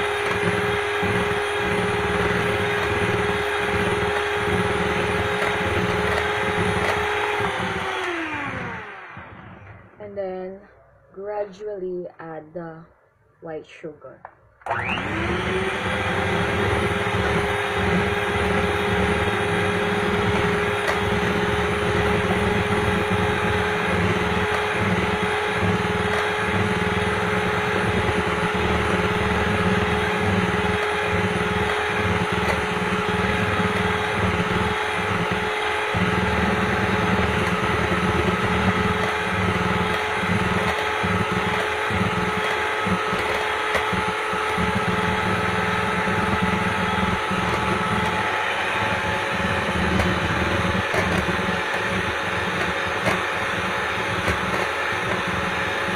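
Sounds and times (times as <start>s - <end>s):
electric hand mixer whirring: 0.0s - 10.0s, 14.6s - 55.9s.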